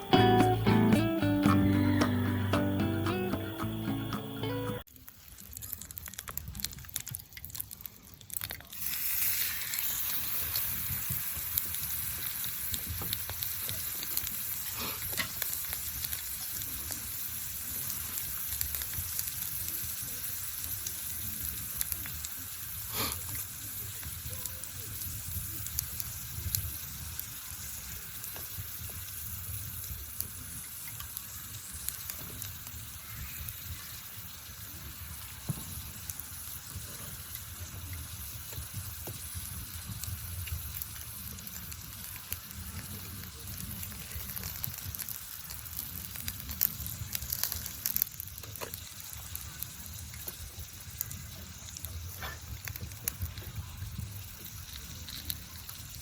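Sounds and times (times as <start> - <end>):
campfire crackling: 0.0 - 56.0
sharp fire pops: 5.0 - 56.0.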